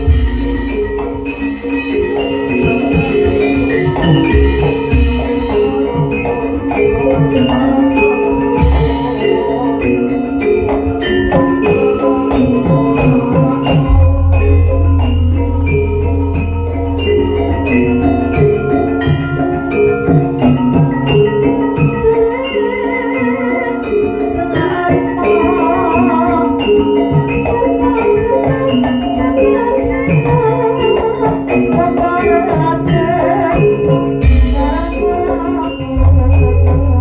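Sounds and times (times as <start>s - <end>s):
metallophones and kettle gongs: 0.0s - 37.0s.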